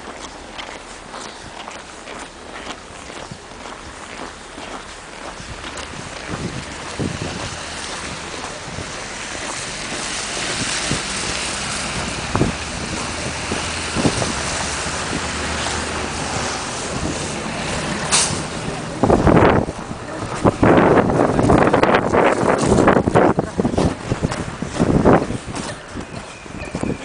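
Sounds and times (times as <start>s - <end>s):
wind blowing across microphone: 0.0s - 27.0s.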